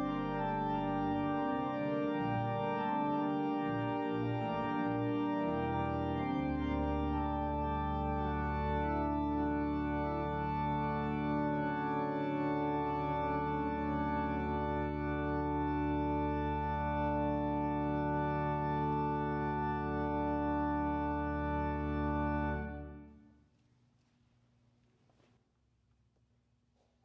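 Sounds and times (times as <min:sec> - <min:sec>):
organ chords: 0:00.0 - 0:24.0.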